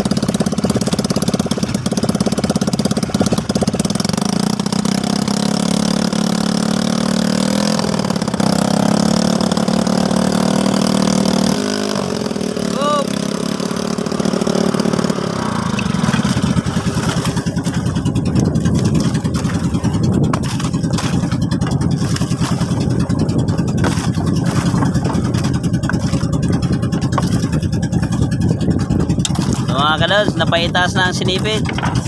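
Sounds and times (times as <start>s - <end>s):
boat engine chugging: 0.0s - 32.0s.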